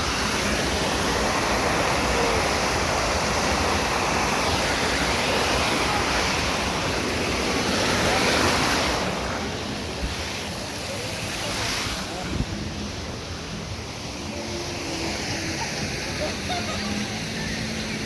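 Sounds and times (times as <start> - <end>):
rushing stream water: 0.0 - 18.0.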